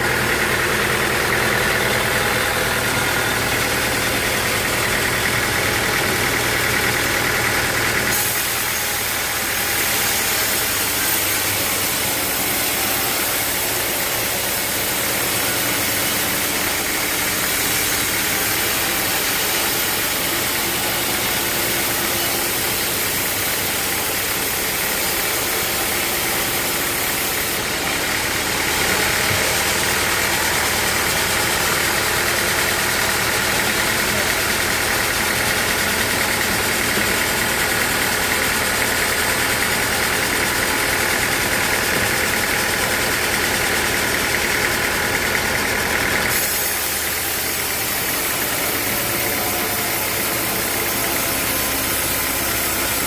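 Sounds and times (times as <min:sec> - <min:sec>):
sawmill machinery humming: 0:00.0 - 0:53.0.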